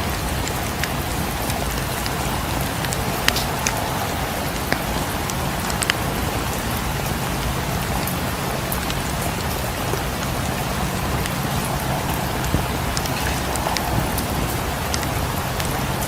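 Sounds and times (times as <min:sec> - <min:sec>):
steady rain: 0:00.0 - 0:16.0
sharp ticks: 0:01.7 - 0:08.1, 0:08.7 - 0:16.0.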